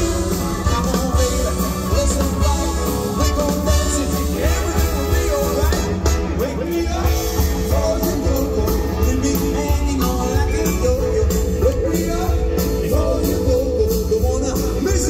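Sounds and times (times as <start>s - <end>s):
person singing: 0.0s - 15.0s
swing and rock band playing: 0.0s - 15.0s.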